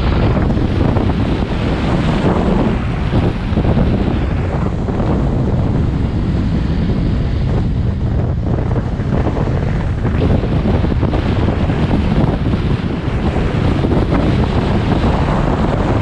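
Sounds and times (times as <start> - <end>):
low rumble: 0.0 - 16.0
wind buffeting microphone: 0.0 - 16.0.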